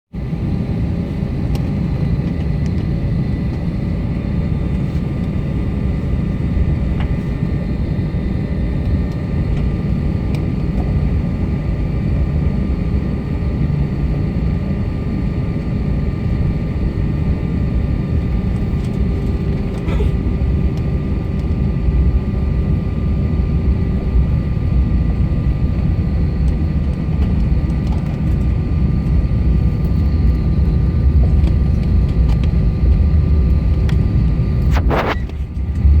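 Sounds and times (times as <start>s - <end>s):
aircraft engine rumble: 0.2s - 36.0s.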